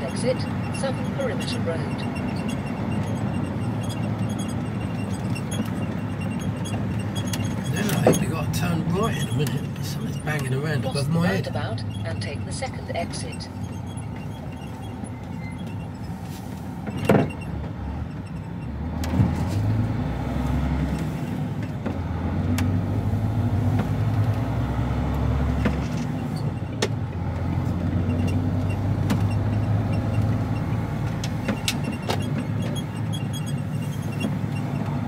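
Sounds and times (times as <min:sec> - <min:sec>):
truck engine drone: 0:00.0 - 0:35.0.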